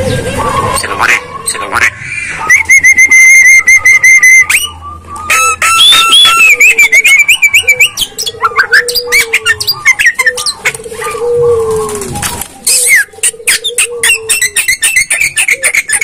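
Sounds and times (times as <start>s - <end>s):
myna whistling and chirping: 0.0s - 11.2s, 12.6s - 16.0s.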